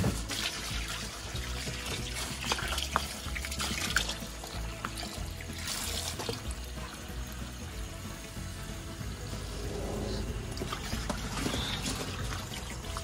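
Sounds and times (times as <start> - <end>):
water splashing in a sink: 0.0 - 9.2, 10.2 - 13.0
background music: 0.0 - 13.0.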